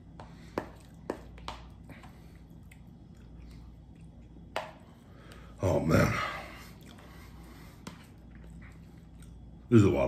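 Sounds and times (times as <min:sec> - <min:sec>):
quiet chewing: 0:00.4 - 0:05.5, 0:06.5 - 0:09.7.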